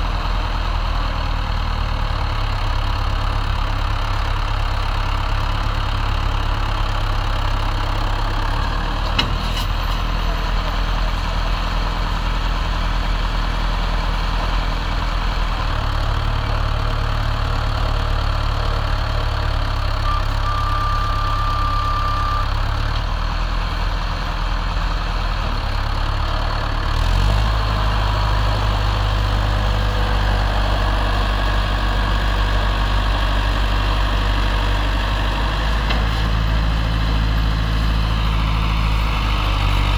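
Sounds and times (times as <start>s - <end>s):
tractor diesel engine straining: 0.0s - 39.9s.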